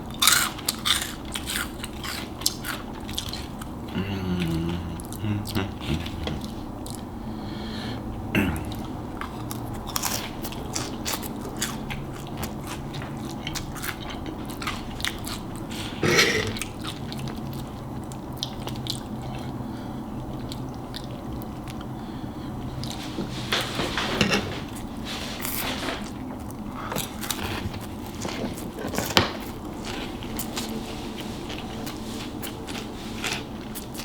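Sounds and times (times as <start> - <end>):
person chewing crunchy food: 0.0 - 7.2, 8.4 - 34.0.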